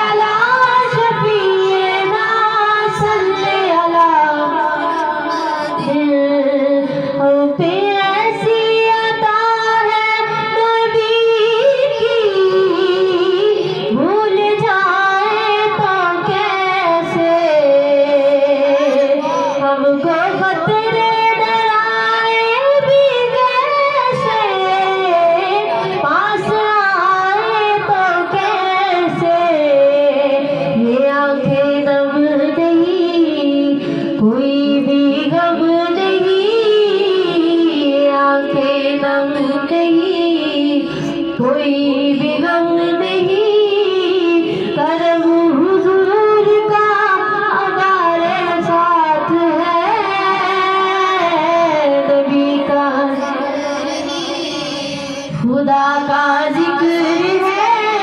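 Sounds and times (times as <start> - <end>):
woman singing devotional song: 0.0 - 58.0.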